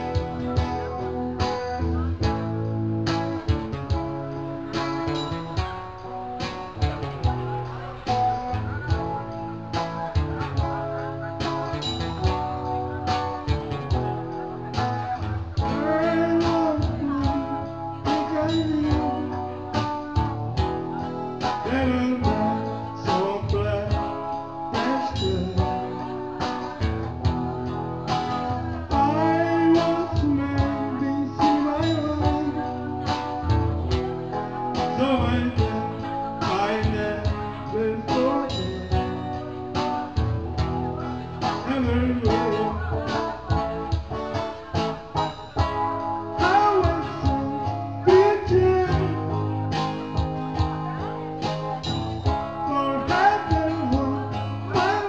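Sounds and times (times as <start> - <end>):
guitar strumming: 0.0 - 55.0
pop-country music: 0.0 - 55.0.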